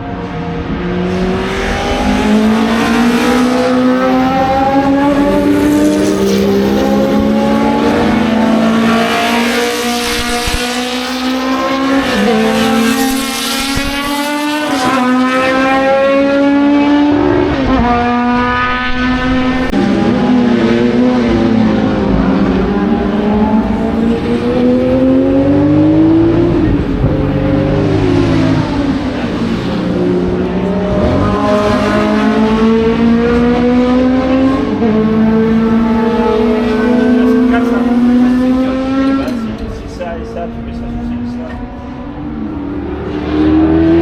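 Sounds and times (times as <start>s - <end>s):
racing car engines at full throttle: 0.0s - 44.0s.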